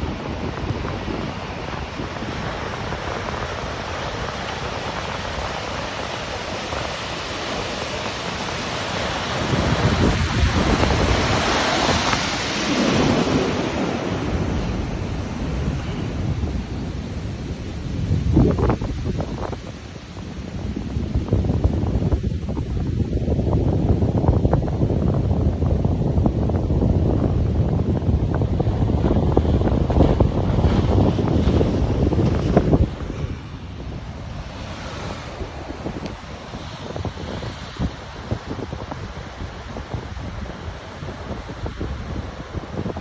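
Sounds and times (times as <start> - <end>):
large waves breaking: 0.0 - 43.0
wind buffeting microphone: 0.0 - 43.0.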